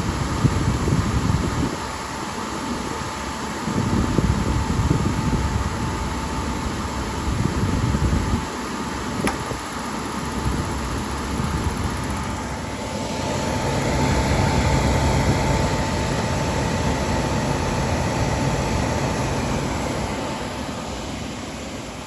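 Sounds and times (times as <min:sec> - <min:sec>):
furnace blower whirring hum: 0:00.0 - 0:22.0.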